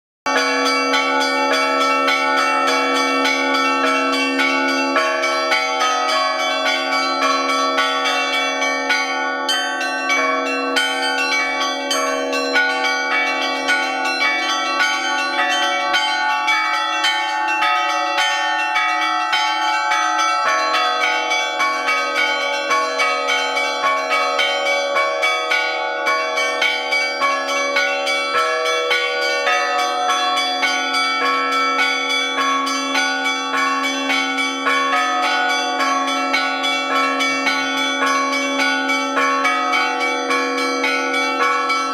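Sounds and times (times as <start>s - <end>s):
large bells ringing: 0.3s - 41.9s.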